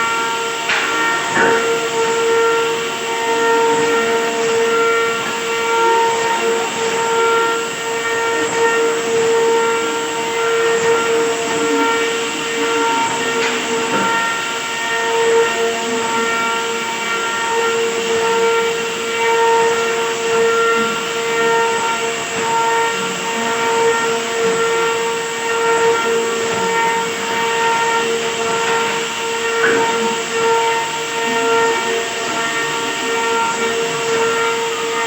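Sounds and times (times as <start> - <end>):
router spindle high whine: 0.0 - 35.0.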